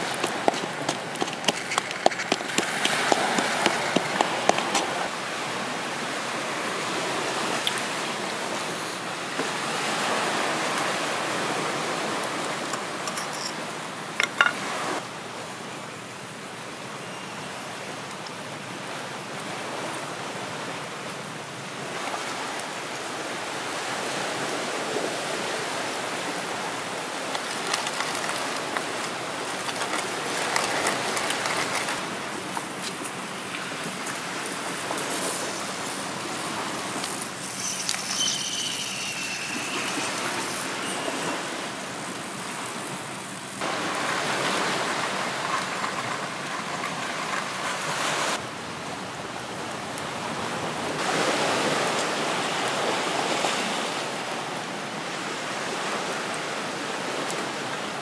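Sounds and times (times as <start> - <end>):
sea surf on rocky shore: 0.0 - 58.0.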